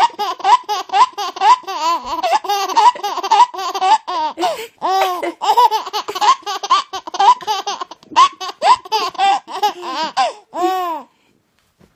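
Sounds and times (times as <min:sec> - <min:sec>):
baby laughing: 0:00.0 - 0:11.1.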